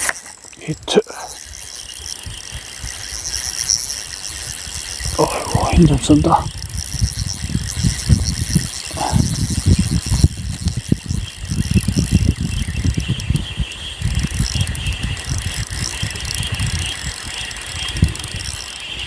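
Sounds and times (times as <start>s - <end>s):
fishing reel whirring: 0.0s - 19.0s.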